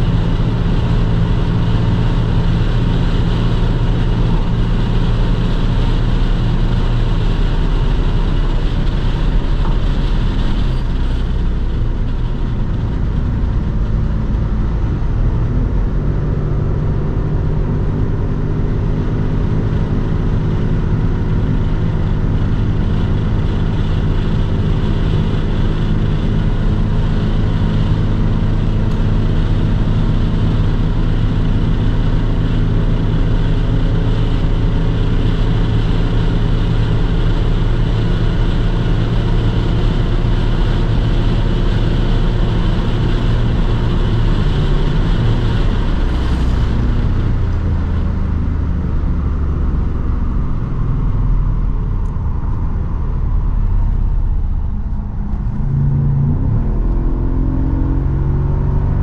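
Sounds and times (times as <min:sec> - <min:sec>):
car engine under load: 0:00.0 - 0:59.0
wind and tyre noise: 0:00.0 - 0:59.0.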